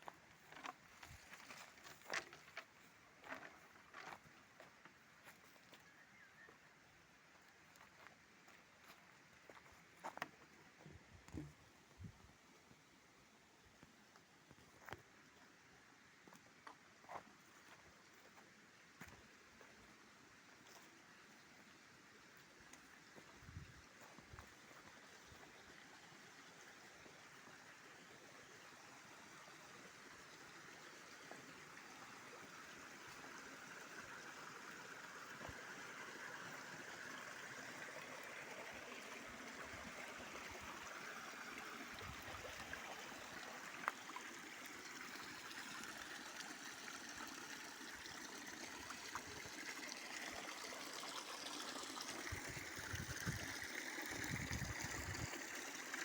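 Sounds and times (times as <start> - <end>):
spring water flowing: 0.0 - 11.9, 12.5 - 56.0.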